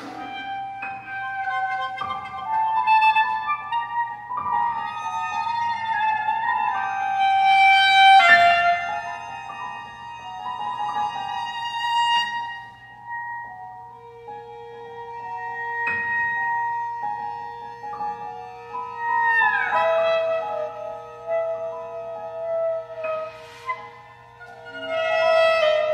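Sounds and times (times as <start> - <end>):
cello: 0.0 - 25.9
clarinet: 0.0 - 25.9
piano: 0.0 - 25.9
violin: 0.0 - 25.9.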